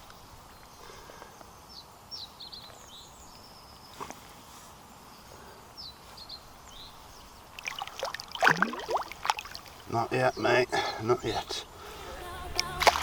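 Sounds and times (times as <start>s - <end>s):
small birds chirping: 0.0s - 12.0s
outdoor background hiss: 0.0s - 13.0s.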